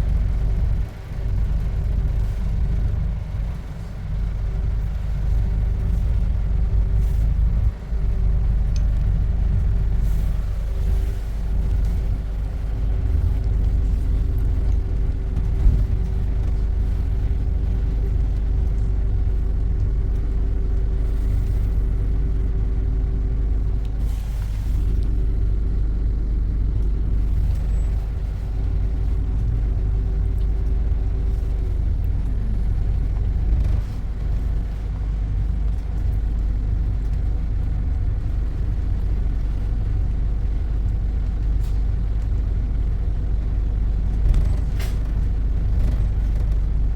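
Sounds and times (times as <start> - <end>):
road vehicle rumble: 0.0 - 46.9.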